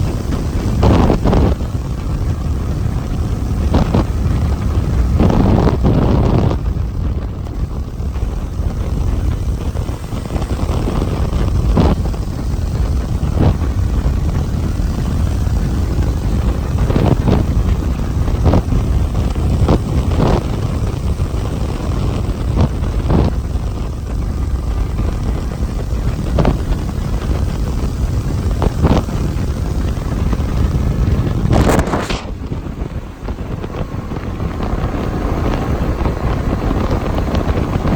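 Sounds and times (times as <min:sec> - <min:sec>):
motorcycle engine and road noise: 0:00.0 - 0:37.9
wind rush: 0:00.0 - 0:37.9.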